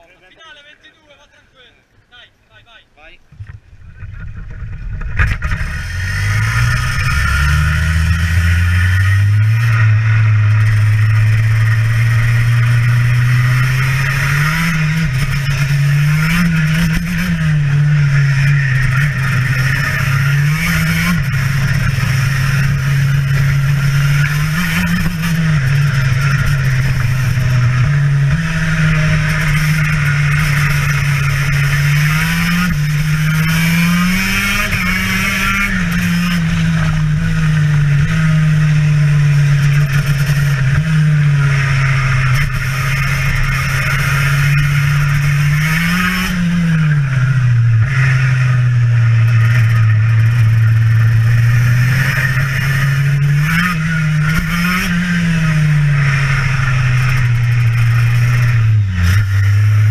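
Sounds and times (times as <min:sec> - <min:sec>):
kart engine revving: 0:03.4 - 0:59.9.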